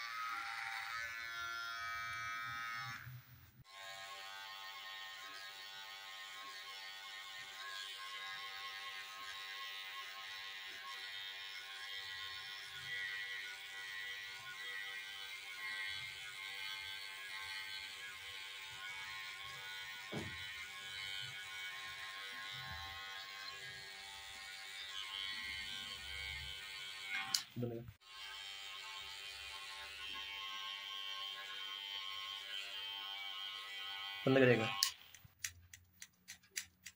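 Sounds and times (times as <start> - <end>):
electric hair clipper buzzing: 0.0 - 35.3.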